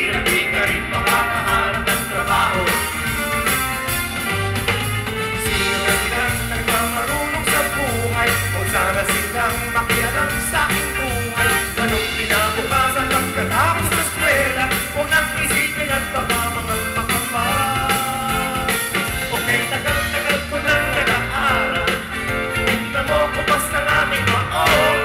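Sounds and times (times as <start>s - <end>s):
men singing into microphones: 0.0s - 3.3s, 5.5s - 25.0s
live band music: 0.0s - 25.0s.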